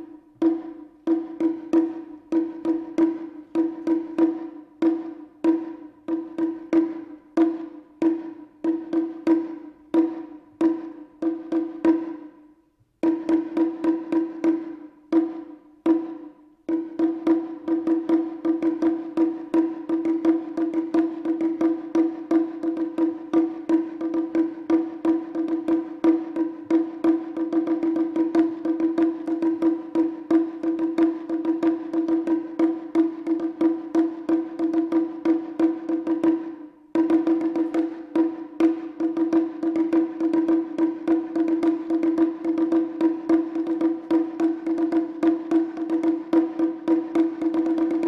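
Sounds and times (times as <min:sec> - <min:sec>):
fast taiko drumming: 0:00.0 - 0:12.4, 0:13.0 - 0:48.0.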